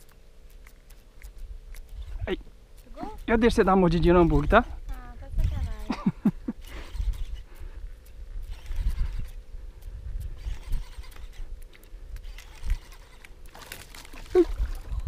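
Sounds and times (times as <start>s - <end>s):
wind rumbling on microphone: 1.2s - 5.9s, 6.6s - 15.0s.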